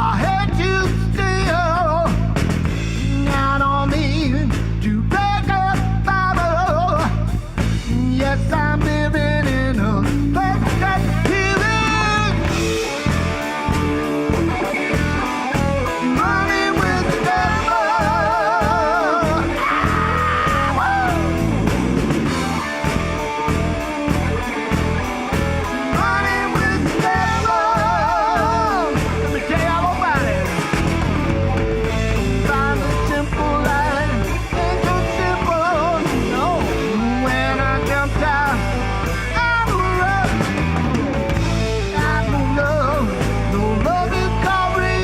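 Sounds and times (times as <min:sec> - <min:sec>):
bass and drums rhythm: 0:00.0 - 0:45.0
bending electric guitar lead: 0:00.0 - 0:45.0
live rock band playing: 0:00.0 - 0:45.0.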